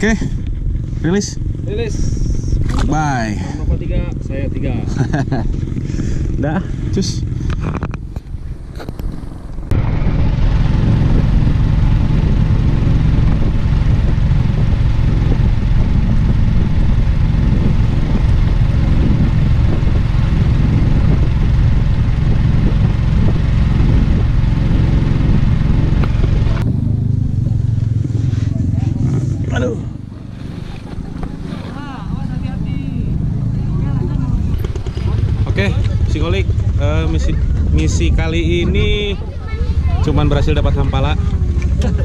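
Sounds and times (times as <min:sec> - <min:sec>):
boat engine running: 0:00.0 - 0:42.0.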